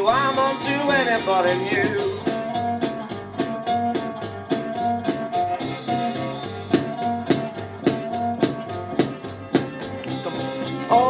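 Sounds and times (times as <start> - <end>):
instrumental rock song: 0.0 - 11.0.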